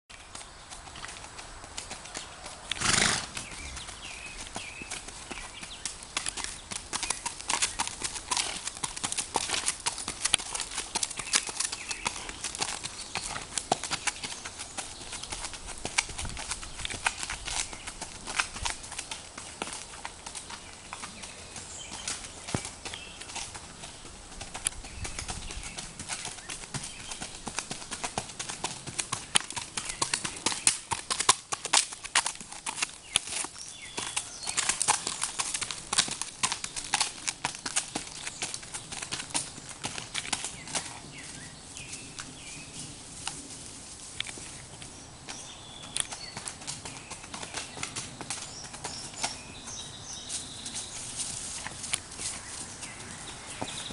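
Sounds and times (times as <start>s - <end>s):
hooves on gravel: 0.1s - 53.9s.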